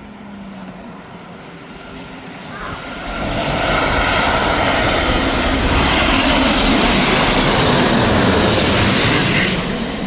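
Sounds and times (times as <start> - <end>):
jet airliner roaring overhead: 0.0 - 10.0.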